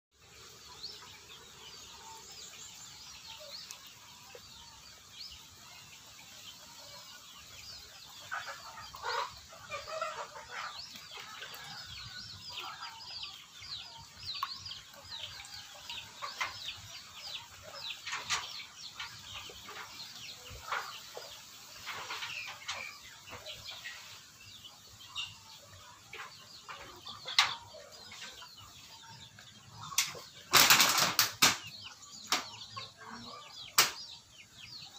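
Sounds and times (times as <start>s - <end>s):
chickens clucking and chirping: 0.2s - 34.9s.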